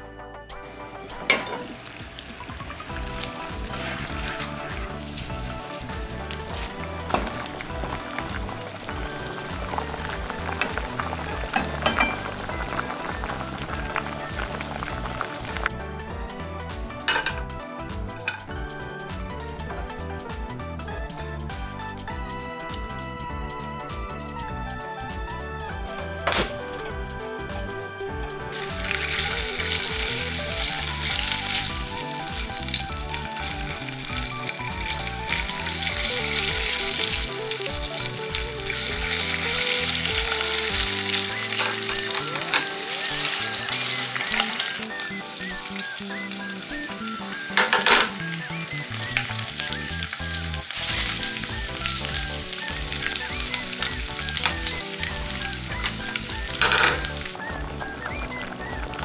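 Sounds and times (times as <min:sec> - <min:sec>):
background music: 0:00.0 - 0:59.0
food sizzling in frying pan: 0:00.6 - 0:20.6, 0:25.8 - 0:59.0.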